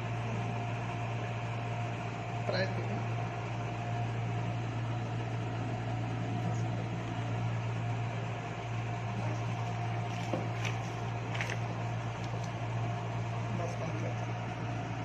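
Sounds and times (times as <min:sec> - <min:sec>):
fan or motor humming: 0:00.0 - 0:15.0.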